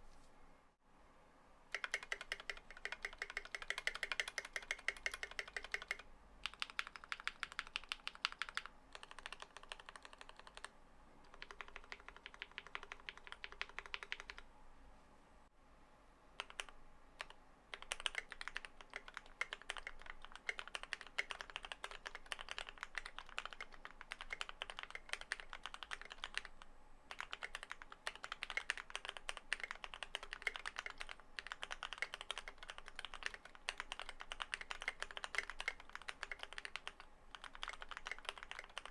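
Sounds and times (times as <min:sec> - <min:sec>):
mechanical keyboard typing: 0:01.7 - 0:10.7, 0:11.3 - 0:14.4, 0:16.4 - 0:38.9.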